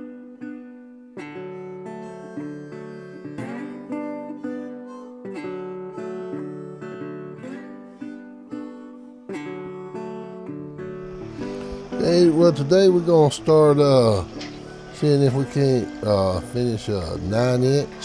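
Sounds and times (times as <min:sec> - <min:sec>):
acoustic guitar plucking chords: 0:00.0 - 0:18.0.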